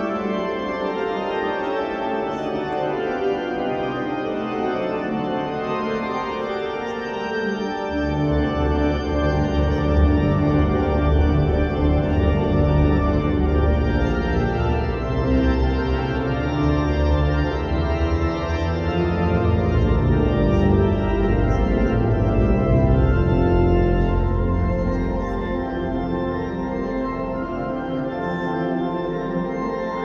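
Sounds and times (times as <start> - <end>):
organ playing held chords: 0.0 - 30.0.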